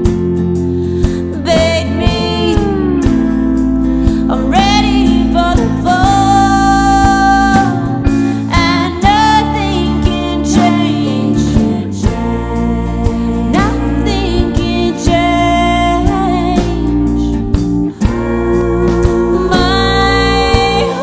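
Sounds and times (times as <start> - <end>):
guitar: 0.0 - 21.0
steady drum beat: 0.0 - 21.0
woman singing with vibrato: 1.2 - 21.0.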